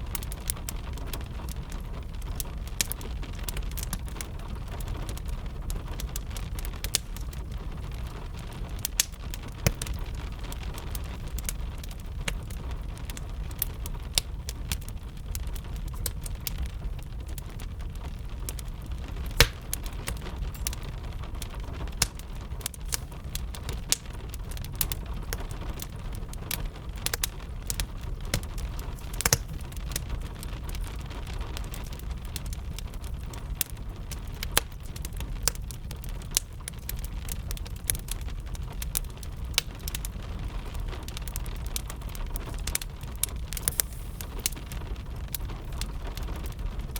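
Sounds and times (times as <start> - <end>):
rain rumbling: 0.0 - 46.9
wood fire crackling: 0.0 - 46.9
sharp fire pops: 0.1 - 46.9.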